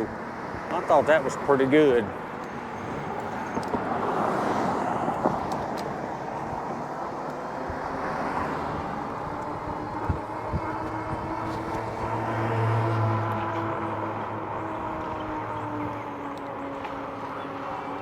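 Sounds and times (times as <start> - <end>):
motor vehicle humming: 0.0 - 18.0
road noise: 0.0 - 18.0
wind buffeting microphone: 1.8 - 18.0.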